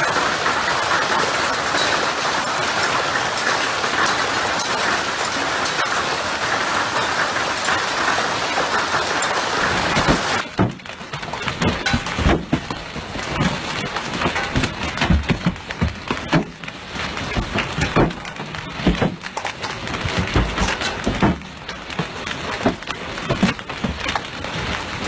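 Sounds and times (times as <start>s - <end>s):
hail pelting onto pool and paving: 0.0s - 25.0s
hailstones striking a car: 0.0s - 25.0s.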